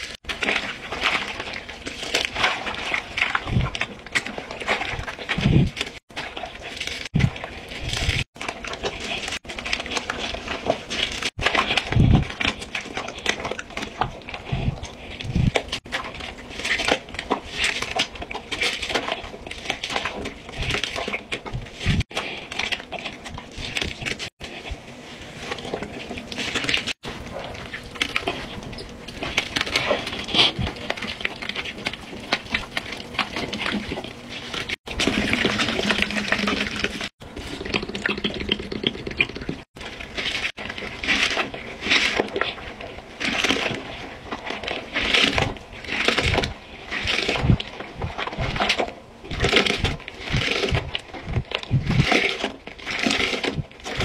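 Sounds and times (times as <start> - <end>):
foam crackling and popping: 0.0 - 54.0
wet sponge squelching: 0.0 - 54.0.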